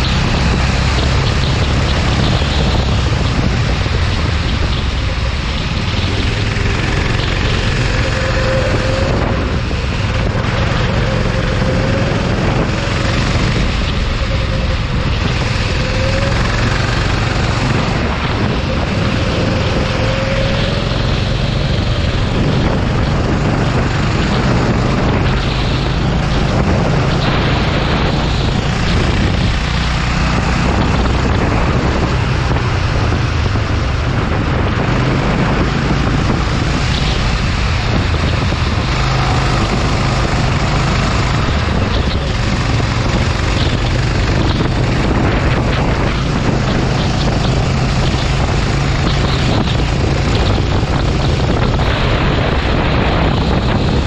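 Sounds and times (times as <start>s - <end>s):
go-kart engine racing: 0.0s - 54.0s
wind noise on microphone: 0.0s - 54.0s.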